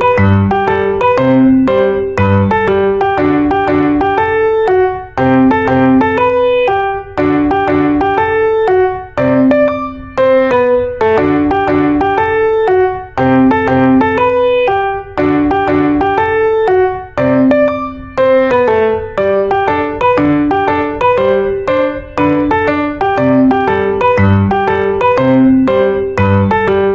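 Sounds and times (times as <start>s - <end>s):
piano melody: 0.0s - 26.9s.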